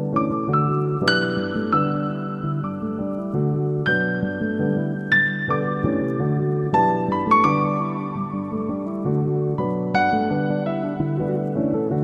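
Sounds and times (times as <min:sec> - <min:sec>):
gentle keyboard music: 0:00.0 - 0:12.0.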